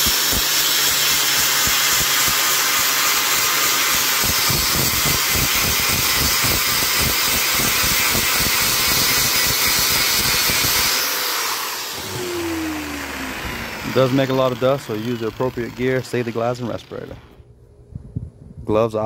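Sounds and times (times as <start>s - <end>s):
sanding pad scouring: 0.0s - 17.3s
angle grinder whining: 0.0s - 17.4s.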